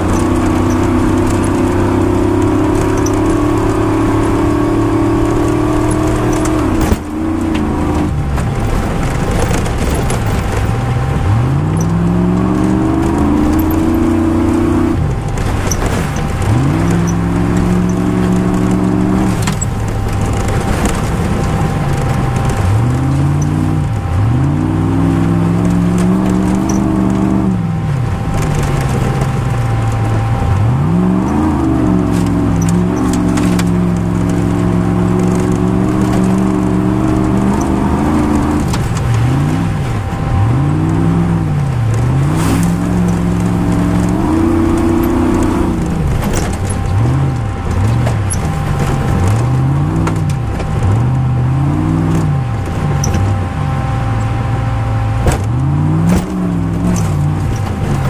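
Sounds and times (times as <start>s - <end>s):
sharp clicks and rattles: 0.0s - 51.2s, 51.9s - 53.5s, 55.1s - 58.0s
rally car engine pulling hard: 0.0s - 58.0s.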